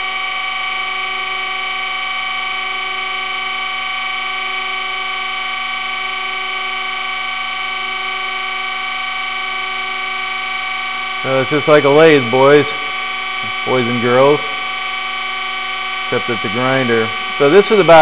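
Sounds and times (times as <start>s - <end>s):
grinder machine whine: 0.0s - 18.0s.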